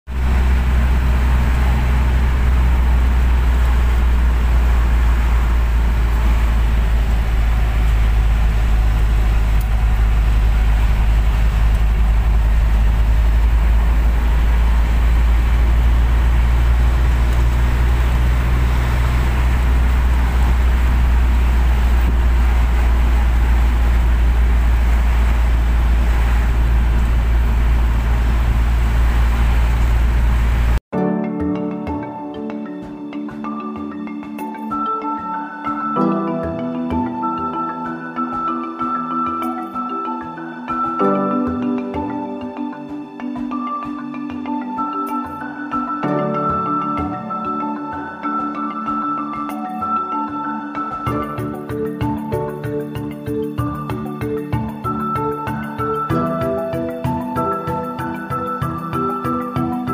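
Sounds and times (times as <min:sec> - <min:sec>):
van engine and road noise: 0:00.0 - 0:30.9, 0:34.2 - 0:59.9.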